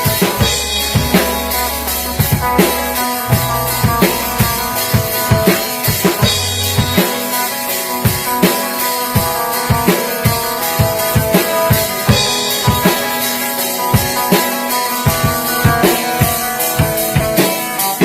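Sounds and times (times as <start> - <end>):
sustained guitar chords: 0.0 - 17.4
drum kit beat: 0.0 - 18.0.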